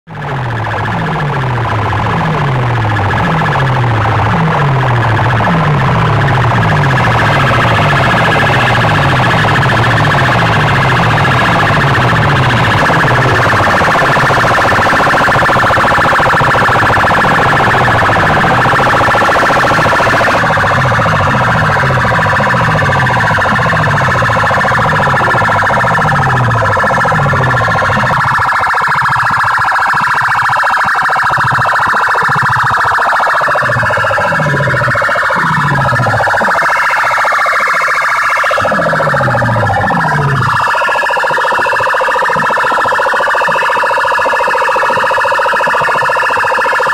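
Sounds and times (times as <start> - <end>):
repeating bass sweep: 0.1 - 46.9
steady high-pitched tones: 0.1 - 46.9.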